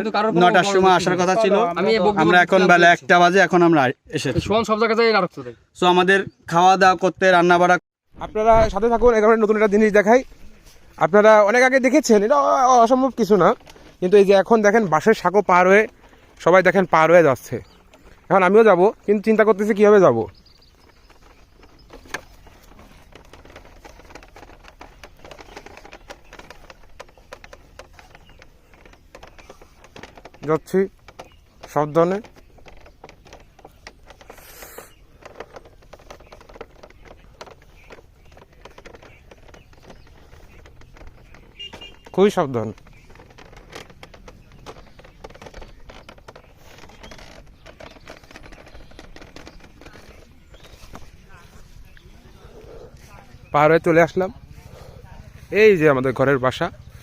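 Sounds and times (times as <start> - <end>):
bamboo footbridge creaking: 0.0 - 57.0
careful footsteps: 8.2 - 57.0.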